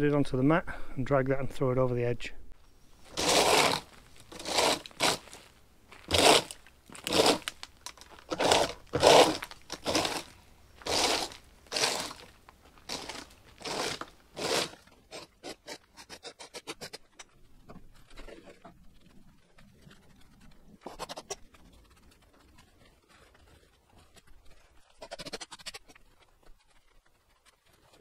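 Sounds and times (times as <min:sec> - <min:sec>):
rake scraping wood chips: 0:02.9 - 0:18.7, 0:19.5 - 0:28.0.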